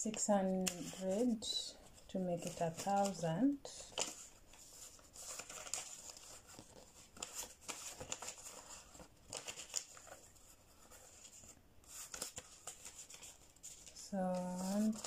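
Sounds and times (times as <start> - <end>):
plastic pages leafed through: 0.1 - 15.0
banknotes rustling: 0.4 - 15.0.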